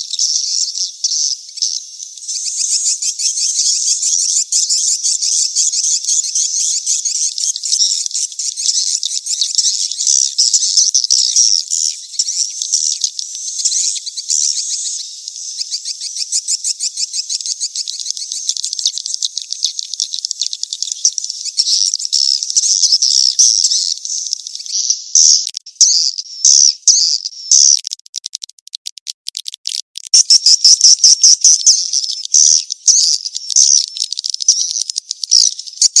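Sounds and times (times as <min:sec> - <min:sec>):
swiftlets chirping and twittering: 0:00.0 - 0:36.0.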